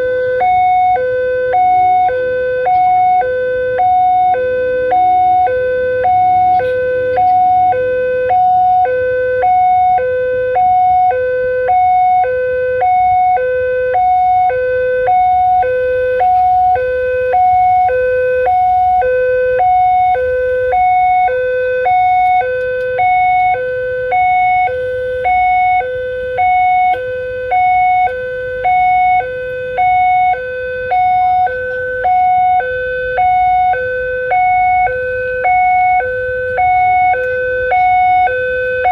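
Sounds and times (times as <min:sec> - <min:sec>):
two-tone electronic warning siren: 0:00.0 - 0:38.9.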